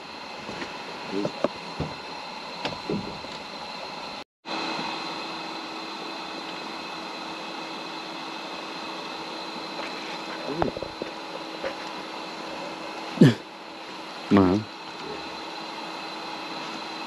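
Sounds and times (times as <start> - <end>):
mechanical hum with held tones: 0.0 - 17.0.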